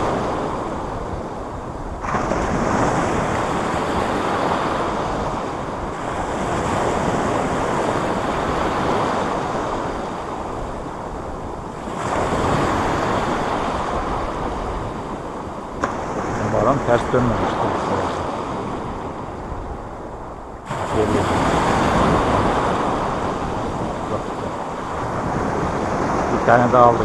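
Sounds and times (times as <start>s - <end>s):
small sea waves breaking: 0.0s - 27.0s
wind buffeting microphone: 0.0s - 27.0s.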